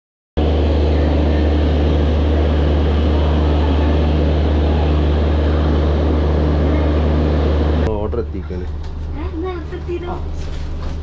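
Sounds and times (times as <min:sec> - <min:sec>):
train machinery droning: 0:00.4 - 0:11.0.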